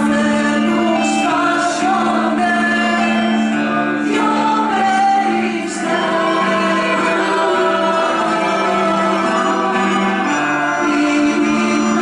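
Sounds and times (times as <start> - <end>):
instrumental accompaniment: 0.0 - 12.0
youth choir singing: 0.0 - 12.0.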